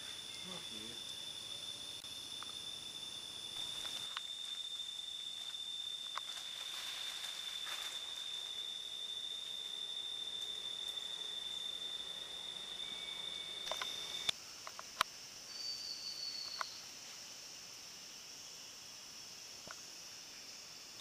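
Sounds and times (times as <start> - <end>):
faint higher insect drone: 0.0 - 21.0
high-pitched insect trill: 0.0 - 21.0.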